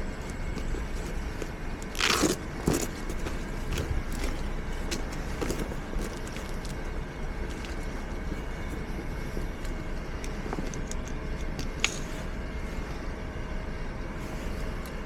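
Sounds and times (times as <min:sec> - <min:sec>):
wind and tyre rumble: 0:00.0 - 0:15.0.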